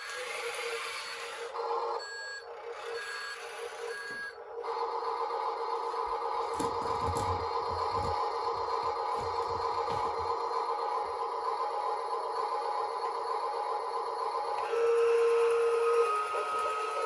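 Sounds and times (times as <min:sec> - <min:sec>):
mechanical whine: 0:00.0 - 0:17.0.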